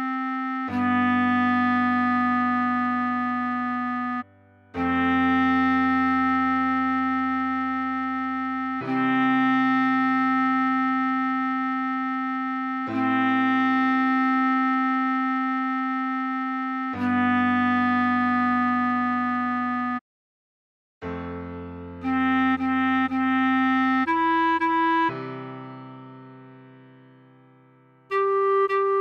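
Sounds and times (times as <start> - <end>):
clarinet playing long notes: 0.0 - 20.0, 22.0 - 26.0, 28.1 - 29.0.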